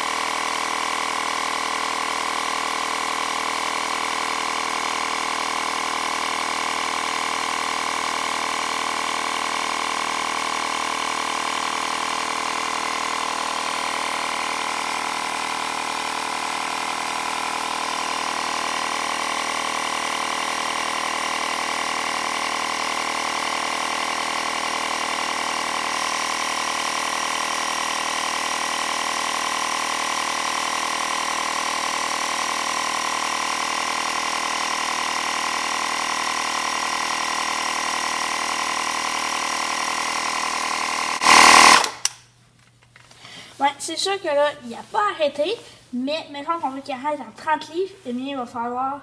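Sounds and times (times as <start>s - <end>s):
tire inflator compressor running: 0.0s - 42.3s.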